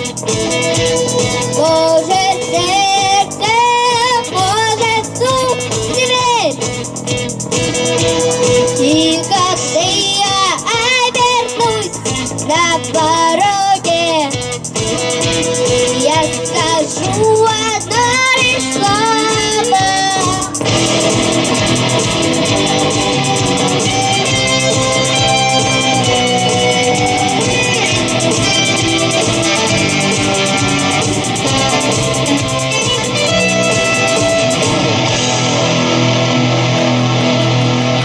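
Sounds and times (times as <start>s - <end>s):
rock band playing: 0.0s - 38.0s.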